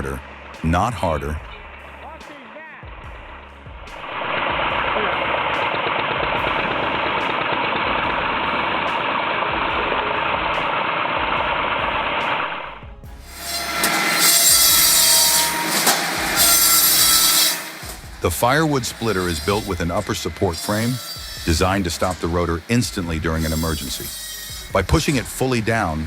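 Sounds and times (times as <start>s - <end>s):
background music with a beat: 0.0s - 26.0s
firewood machine engine running: 3.0s - 12.6s, 13.3s - 26.0s
chainsaw cutting wood: 3.3s - 12.5s, 13.2s - 26.0s.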